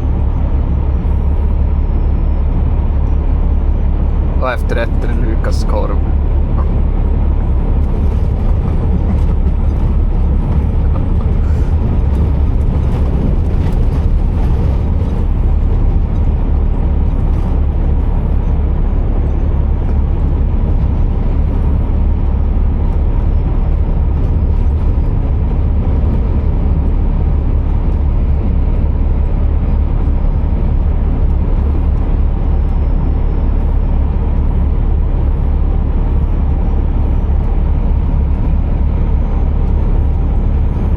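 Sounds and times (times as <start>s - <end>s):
road noise: 0.0s - 40.9s
truck diesel engine droning: 0.0s - 40.9s.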